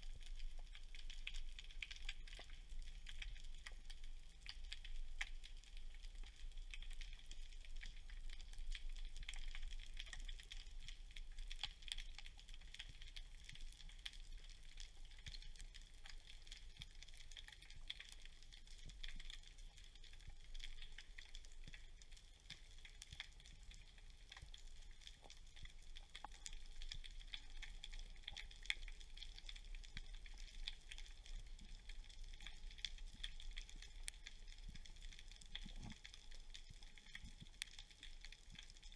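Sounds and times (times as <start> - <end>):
underwater crackle of clicks: 0.0 - 38.9.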